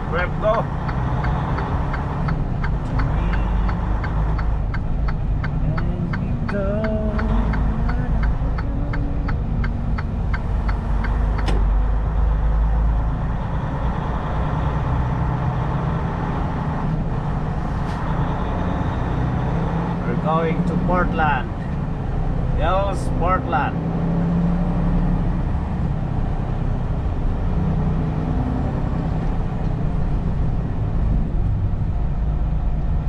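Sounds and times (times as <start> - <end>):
truck engine and road rumble: 0.0 - 33.0.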